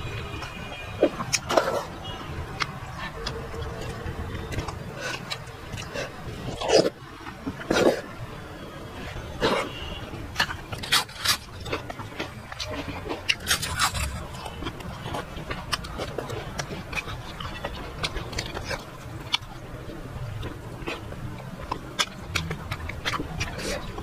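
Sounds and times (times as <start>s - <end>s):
wet chewing: 0.0s - 8.3s, 8.9s - 24.0s.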